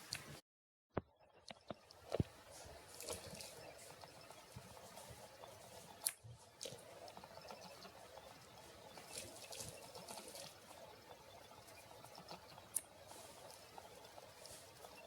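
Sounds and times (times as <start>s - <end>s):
soft ticks and light crackling: 1.4s - 15.0s.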